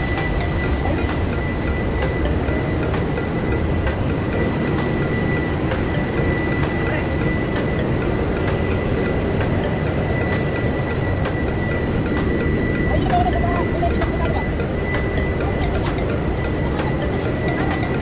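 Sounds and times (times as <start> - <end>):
high-pitched whine: 0.0 - 18.0
machinery low drone: 0.0 - 18.0.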